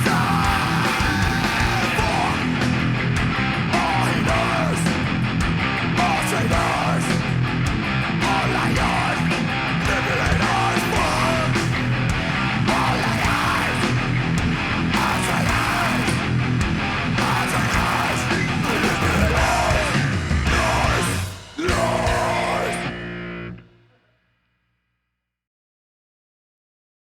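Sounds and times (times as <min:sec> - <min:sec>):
rock band playing: 0:00.0 - 0:23.8.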